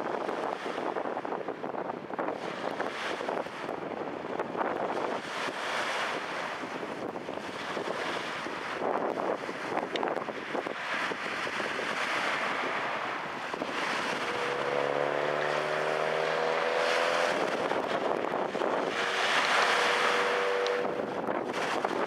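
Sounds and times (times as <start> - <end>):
waves washing on lake: 0.0 - 22.0
wind buffeting microphone: 0.0 - 22.0.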